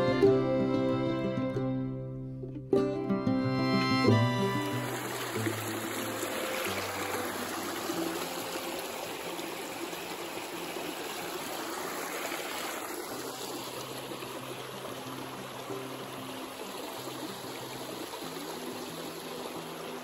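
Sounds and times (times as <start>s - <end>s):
creek running over rocks: 3.6s - 20.0s.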